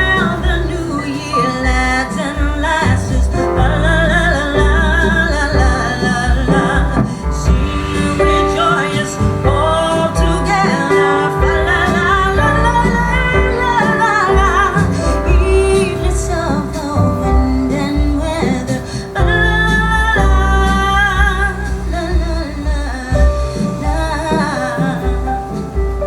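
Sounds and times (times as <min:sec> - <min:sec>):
song with wavering vocals: 0:00.0 - 0:25.8
heavy bass: 0:00.0 - 0:26.0.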